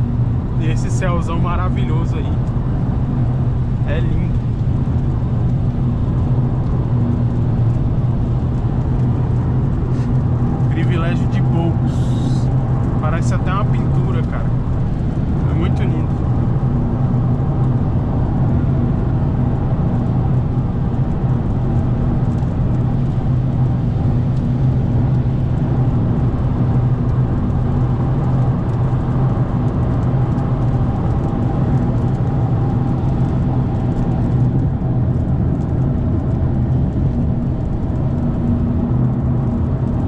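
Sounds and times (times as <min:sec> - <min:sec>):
car engine and tyre hum: 0:00.0 - 0:40.0.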